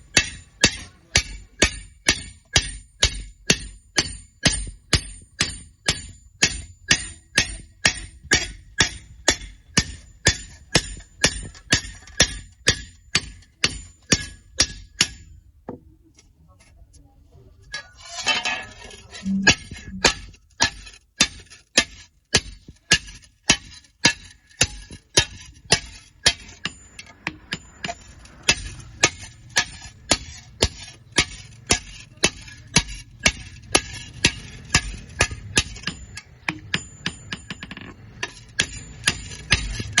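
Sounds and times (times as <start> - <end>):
hammer striking iron: 0.0 - 15.3, 17.7 - 40.0.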